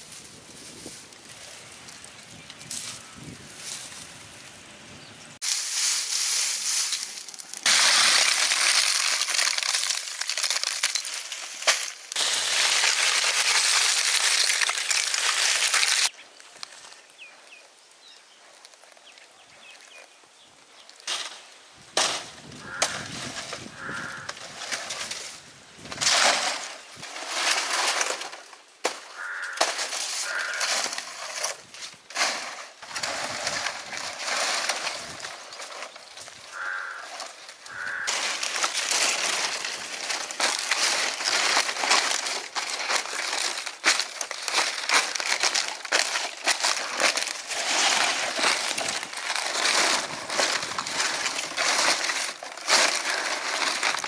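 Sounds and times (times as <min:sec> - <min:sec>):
dry grass burning crackle: 0:00.0 - 0:04.6, 0:05.4 - 0:17.1, 0:20.8 - 0:54.0
rustles and crunches of dry leaves: 0:00.0 - 0:54.0.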